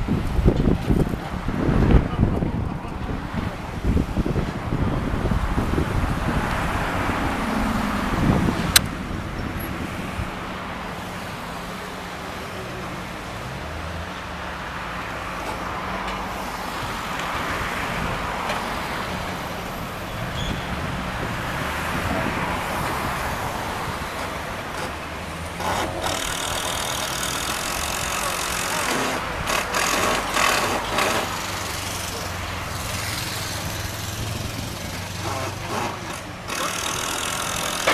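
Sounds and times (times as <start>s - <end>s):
engines running: 0.0s - 37.9s
road traffic noise: 0.0s - 37.9s.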